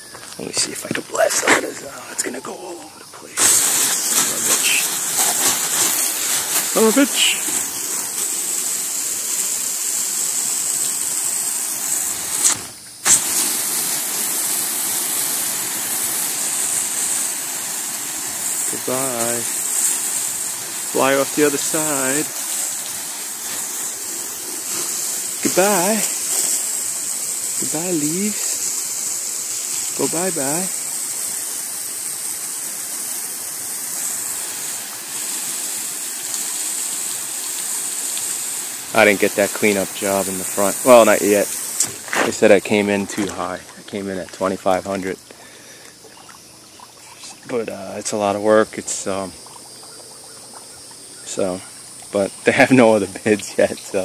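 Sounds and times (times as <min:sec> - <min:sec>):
hose spraying on screen: 0:00.0 - 0:54.0.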